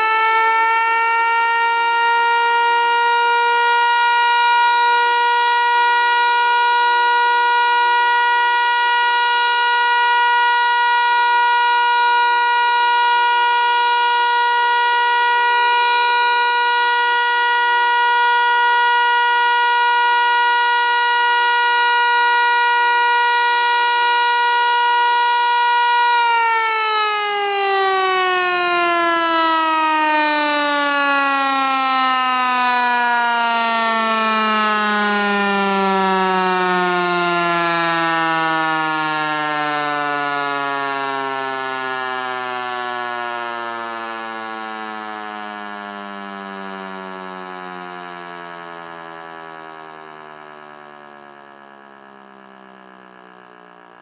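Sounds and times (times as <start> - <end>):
siren winding down: 0.0 - 54.0
warning siren steady tone: 0.0 - 54.0.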